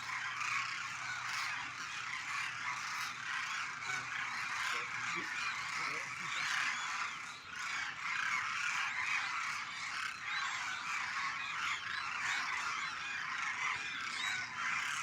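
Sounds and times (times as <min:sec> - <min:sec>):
flock of cranes calling: 0:00.0 - 0:15.0.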